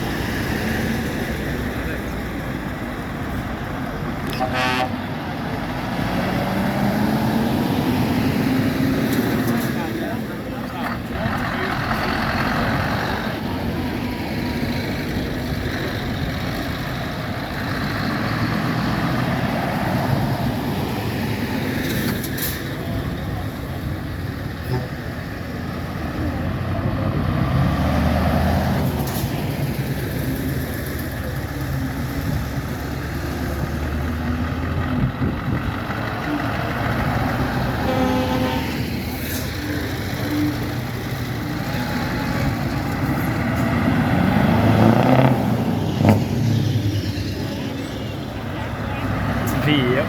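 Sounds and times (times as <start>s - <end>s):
heavy vehicle engine rumbling: 0.0s - 50.0s.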